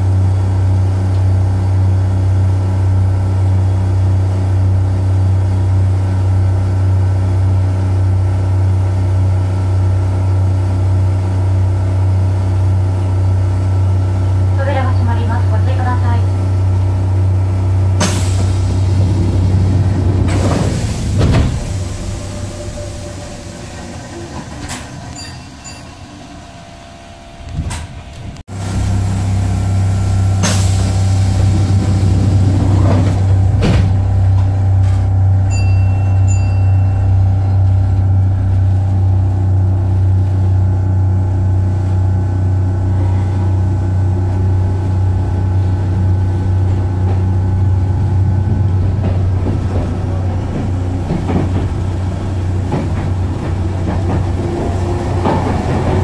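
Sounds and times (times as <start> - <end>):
train equipment humming: 0.0 - 56.0.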